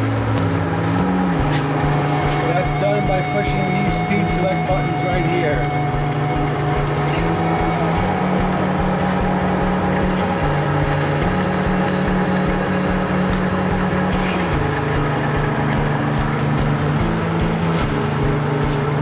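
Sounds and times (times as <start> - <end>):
lathe humming: 0.0 - 19.0.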